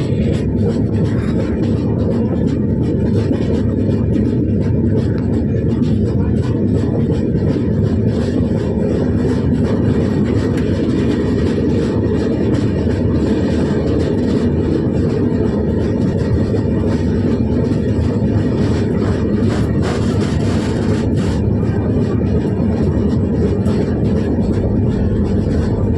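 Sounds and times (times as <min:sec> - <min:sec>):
train rumbling: 0:00.0 - 0:25.9.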